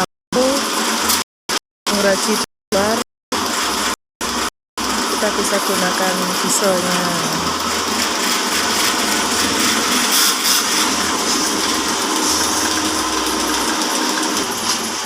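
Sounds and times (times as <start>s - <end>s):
band sawmill whirring: 2.8s - 15.0s.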